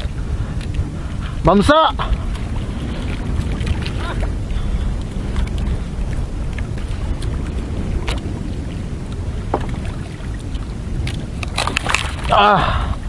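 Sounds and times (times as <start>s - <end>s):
sea noise: 0.0s - 13.0s
wind on microphone: 0.0s - 13.0s.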